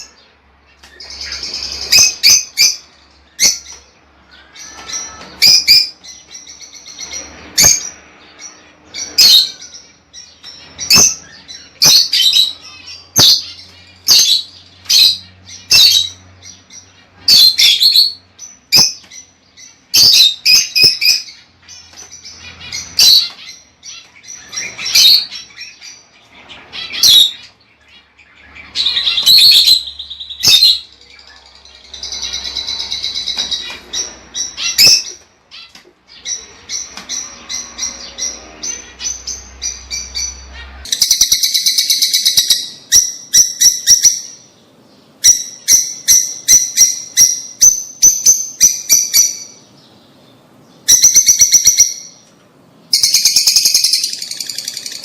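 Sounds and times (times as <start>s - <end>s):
lovebirds chirping and shrieking: 0.0s - 55.0s.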